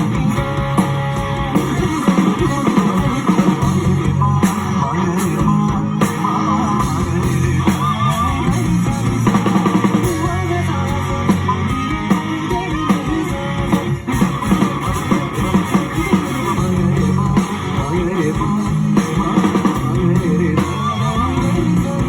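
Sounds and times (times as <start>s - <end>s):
drum kit: 0.0s - 22.0s
electric guitar playing: 0.0s - 22.0s.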